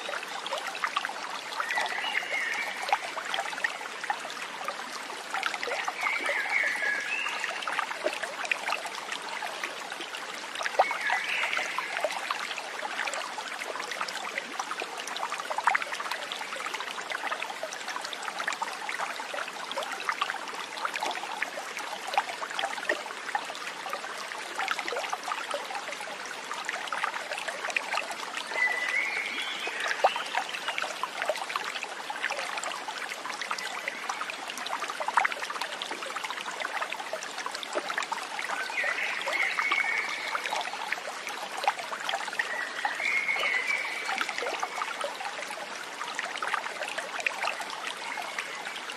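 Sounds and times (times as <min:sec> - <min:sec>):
stream trickling and splashing: 0:00.0 - 0:48.9.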